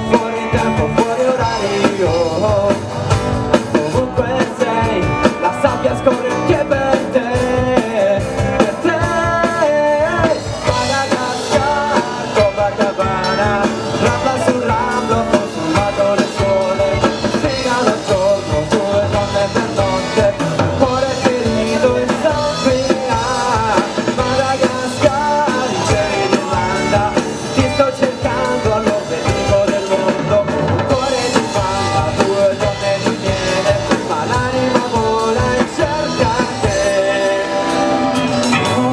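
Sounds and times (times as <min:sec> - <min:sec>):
bass guitar: 0:00.0 - 0:38.9
drum kit: 0:00.0 - 0:38.9
electric guitars: 0:00.0 - 0:38.9
man singing lead vocals: 0:00.0 - 0:38.9.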